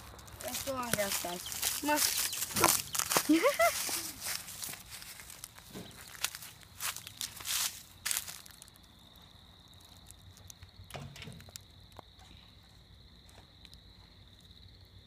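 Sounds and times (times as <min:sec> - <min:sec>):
crunching rustle on dry ground: 0:00.0 - 0:14.5.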